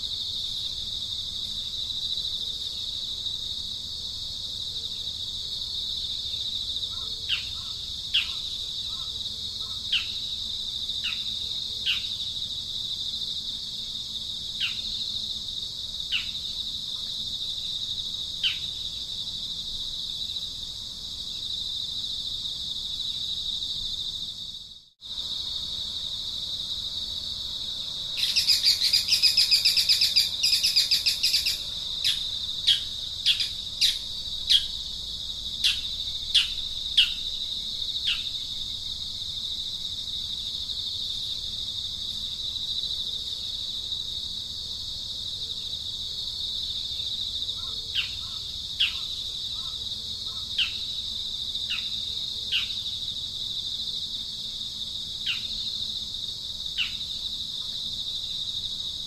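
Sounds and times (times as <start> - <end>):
shrill insect drone: 4.9 - 59.0.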